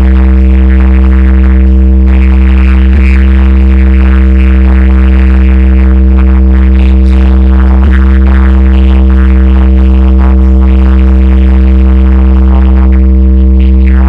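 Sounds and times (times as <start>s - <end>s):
deep bass tone: 0.0s - 14.0s
loud electronic music: 0.0s - 14.0s.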